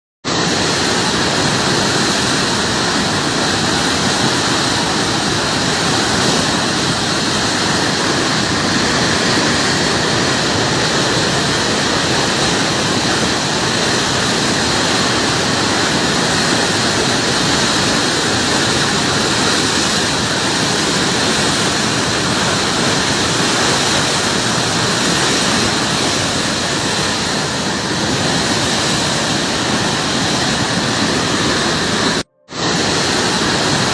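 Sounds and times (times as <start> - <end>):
floodwater rushing: 0.3 - 33.9.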